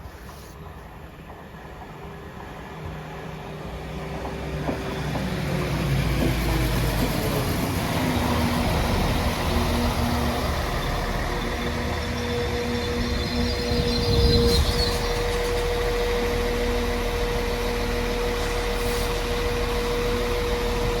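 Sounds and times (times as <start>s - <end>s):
train running: 0.0s - 21.0s.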